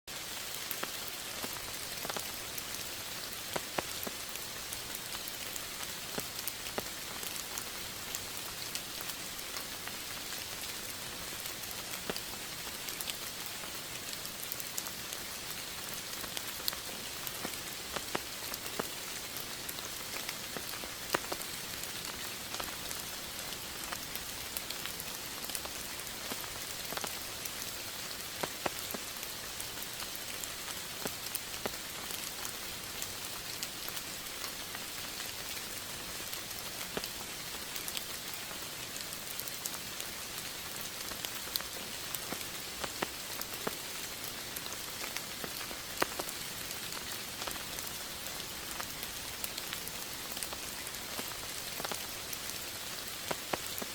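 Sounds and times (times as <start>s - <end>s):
steady rain hiss: 0.1s - 53.9s
raindrops ticking: 0.4s - 53.9s.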